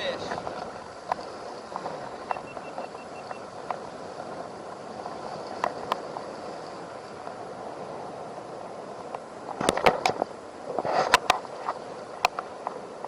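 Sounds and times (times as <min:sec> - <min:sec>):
surf: 0:00.0 - 0:13.0
wind on microphone: 0:00.0 - 0:13.0.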